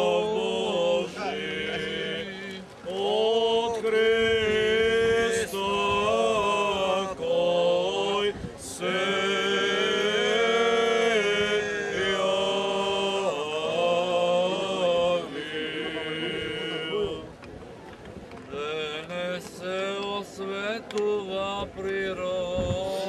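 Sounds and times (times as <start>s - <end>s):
men singing a liturgical chant: 0.0s - 17.4s, 18.5s - 23.0s.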